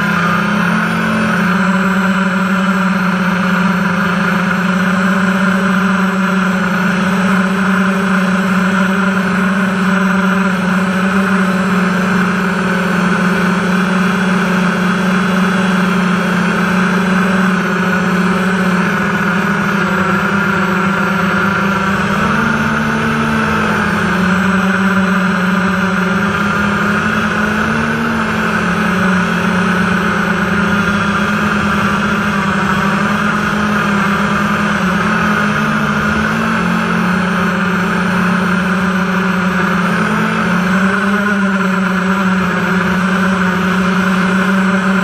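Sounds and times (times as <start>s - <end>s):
model aircraft motors humming: 0.0s - 45.0s.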